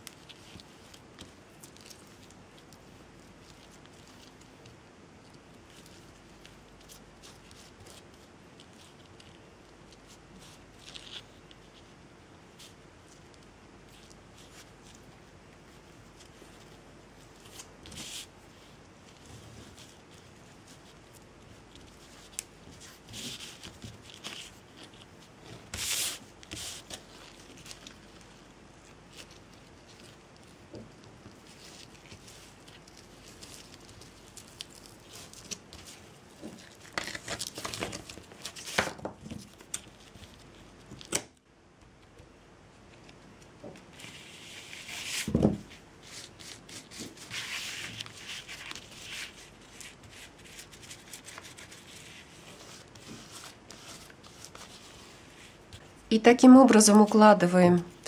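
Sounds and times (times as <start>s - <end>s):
twine and hands rustling: 0.0s - 41.1s, 42.0s - 58.0s.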